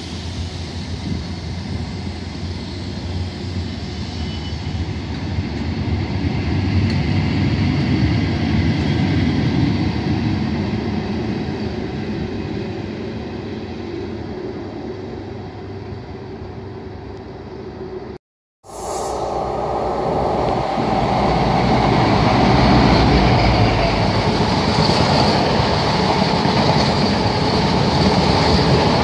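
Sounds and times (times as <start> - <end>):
diesel train engine: 0.0 - 29.0.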